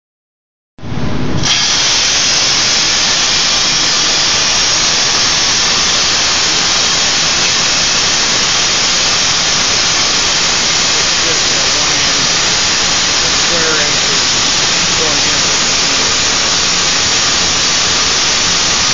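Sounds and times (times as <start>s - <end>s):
cutting torch hissing: 1.4s - 18.9s.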